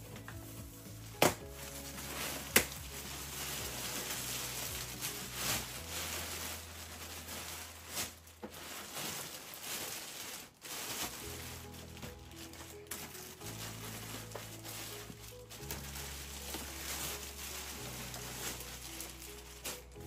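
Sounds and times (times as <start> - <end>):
plastic parts rustling: 0.0 - 20.0.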